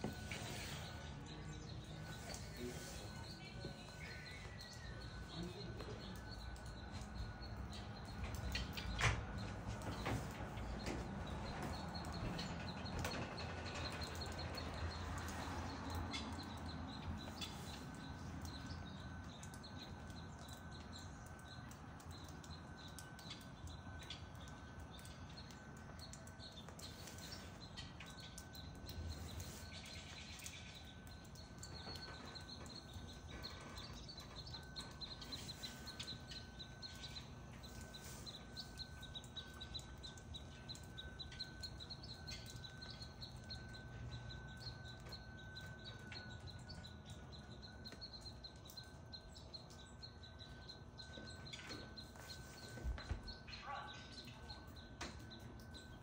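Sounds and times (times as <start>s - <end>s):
small birds chirping faintly: 0.0s - 56.0s.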